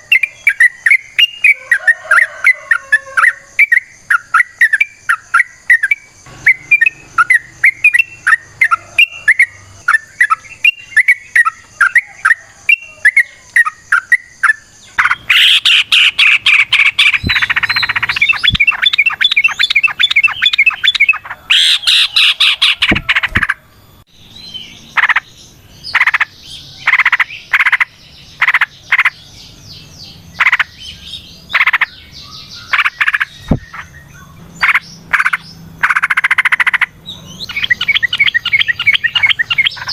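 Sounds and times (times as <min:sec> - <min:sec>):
bird chirping and chattering: 0:00.0 - 0:23.6, 0:24.2 - 0:39.9.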